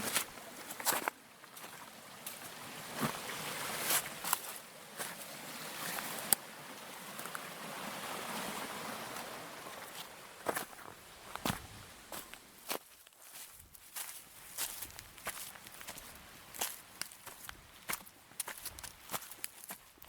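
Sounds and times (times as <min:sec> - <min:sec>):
brook water over stones: 0:00.0 - 0:20.0.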